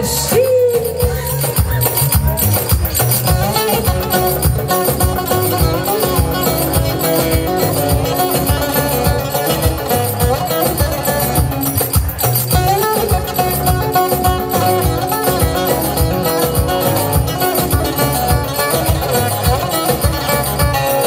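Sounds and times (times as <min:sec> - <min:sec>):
live band playing folk music: 0:00.0 - 0:21.0.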